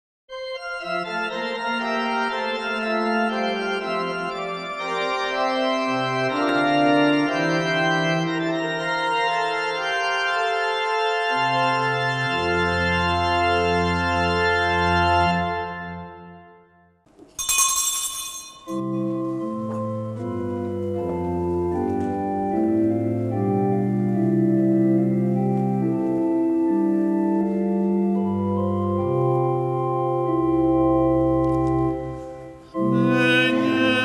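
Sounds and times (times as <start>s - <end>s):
organ playing sustained chords: 0.3s - 16.7s, 18.8s - 34.0s.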